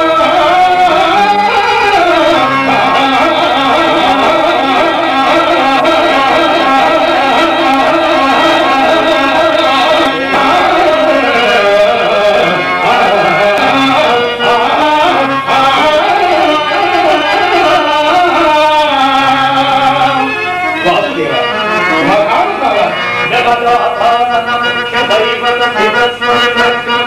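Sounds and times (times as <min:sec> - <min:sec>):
instrumental accompaniment: 0:00.0 - 0:27.0
man singing into a microphone: 0:00.0 - 0:27.0.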